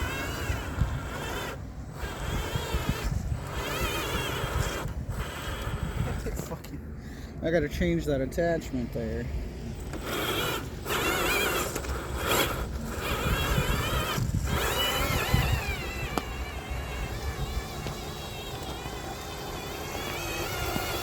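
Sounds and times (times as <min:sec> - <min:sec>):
rc truck motor whining: 0:00.0 - 0:06.7, 0:09.6 - 0:21.0
tyres rumbling on rough ground: 0:00.0 - 0:21.0.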